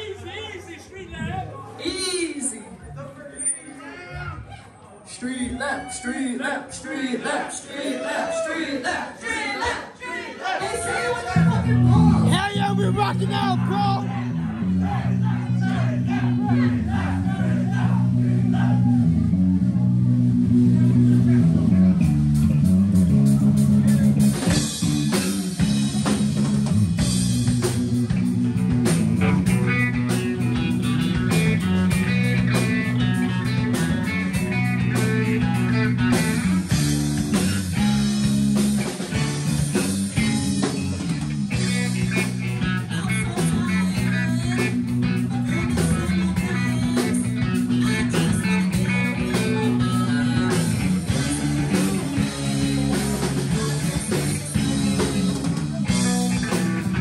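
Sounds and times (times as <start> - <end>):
psychedelic blues rock music: 11.4 - 57.0.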